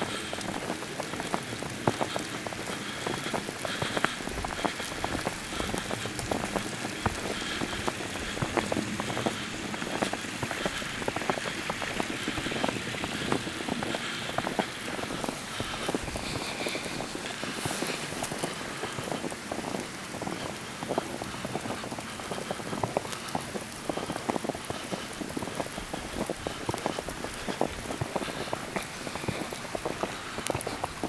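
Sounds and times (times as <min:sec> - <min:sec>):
falling snow pattering: 0:00.0 - 0:31.0.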